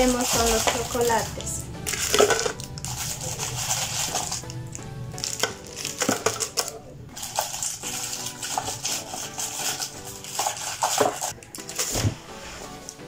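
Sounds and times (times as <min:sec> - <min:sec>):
chocolates clinking in metal tin: 0:00.0 - 0:11.9
background music: 0:00.0 - 0:13.0.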